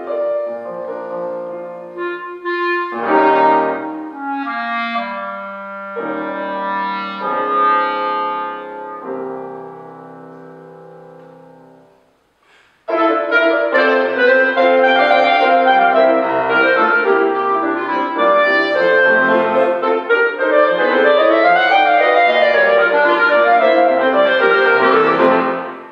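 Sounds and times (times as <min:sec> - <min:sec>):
clarinet and piano playing: 0:00.0 - 0:12.0, 0:12.9 - 0:25.9.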